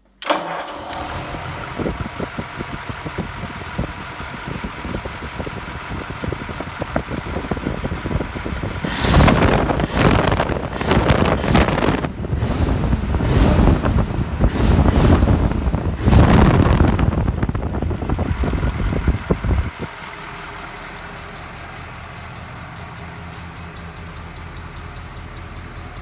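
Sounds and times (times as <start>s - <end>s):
engine idling and revving: 0.7s - 26.0s.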